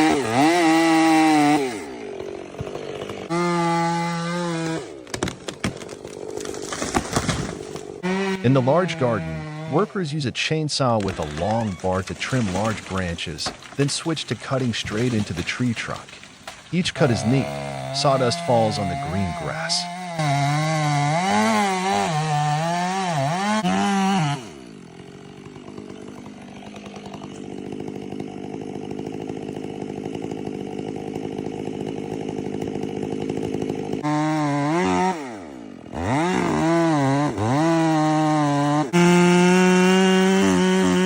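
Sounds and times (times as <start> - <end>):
chainsaw cutting wood: 0.0 - 41.0
chainsaw idling: 0.0 - 41.0.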